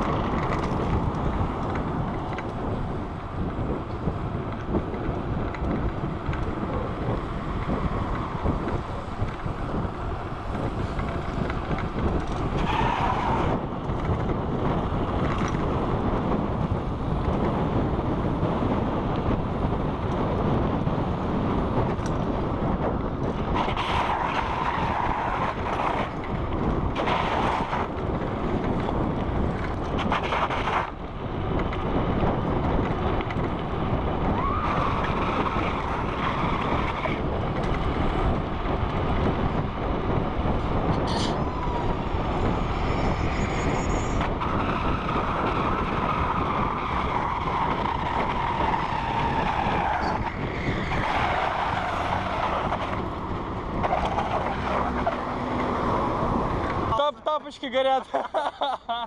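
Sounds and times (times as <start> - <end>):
bike tyres rolling on asphalt: 0.0 - 57.1
wind on microphone: 0.0 - 57.2.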